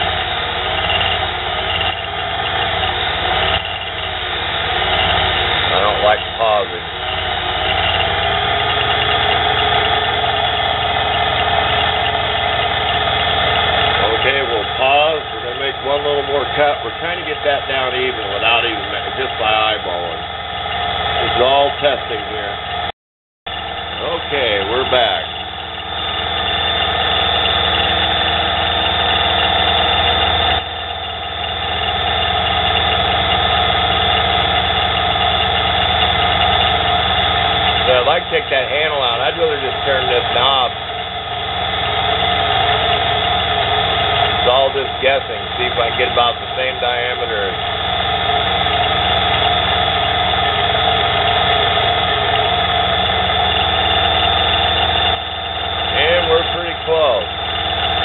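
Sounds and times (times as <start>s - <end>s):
mini lathe running: 0.0s - 22.9s, 23.5s - 58.0s.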